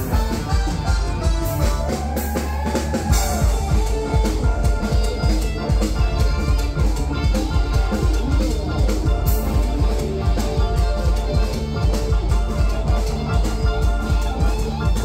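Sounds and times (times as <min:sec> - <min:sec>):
fast drum kit beat: 0:00.0 - 0:15.0
live band dance music: 0:00.0 - 0:15.0.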